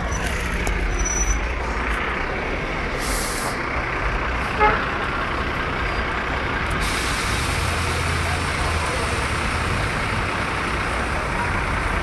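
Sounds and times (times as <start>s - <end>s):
heavy vehicles rumbling past: 0.0s - 12.0s.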